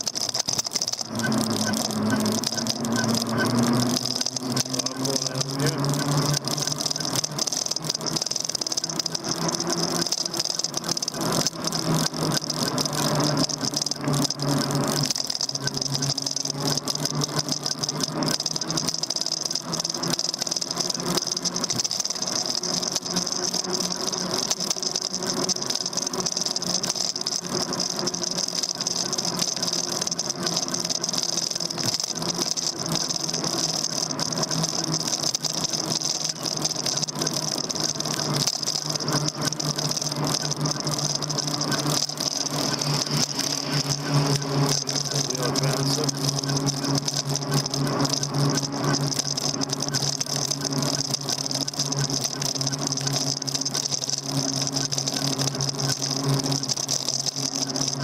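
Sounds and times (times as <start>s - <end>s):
bike rattling and knocking: 0.0s - 58.0s
electric bike motor whine: 0.0s - 58.0s.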